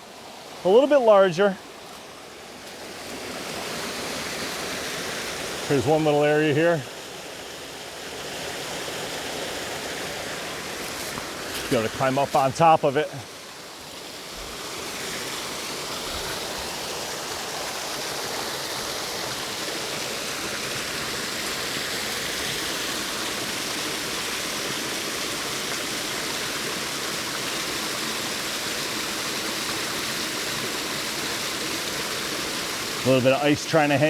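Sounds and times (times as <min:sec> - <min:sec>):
water rushing over waterfall: 0:00.1 - 0:34.0.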